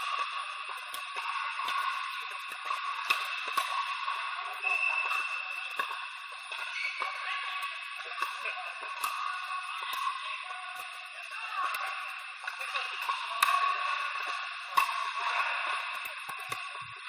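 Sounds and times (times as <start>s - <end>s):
background din in indoor hall: 0.0s - 17.0s.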